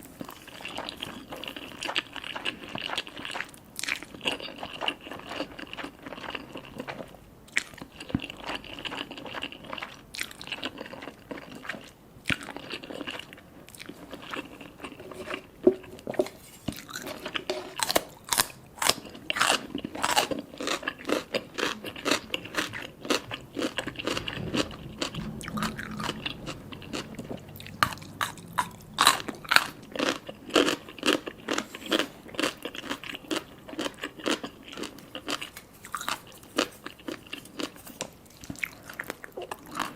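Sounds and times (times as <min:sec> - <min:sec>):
person chewing and biting food: 0:00.0 - 0:39.9.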